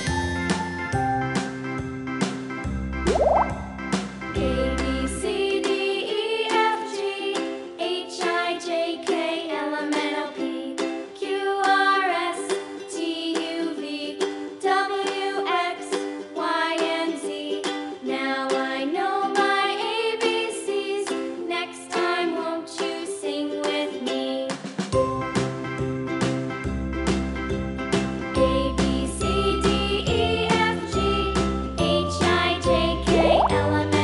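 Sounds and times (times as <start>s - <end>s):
light plucked music: 0.0s - 34.0s.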